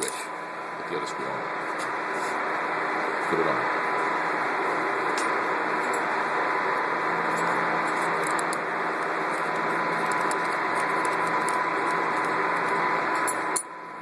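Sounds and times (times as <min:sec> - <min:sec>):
thin steady whine: 0:00.0 - 0:14.0.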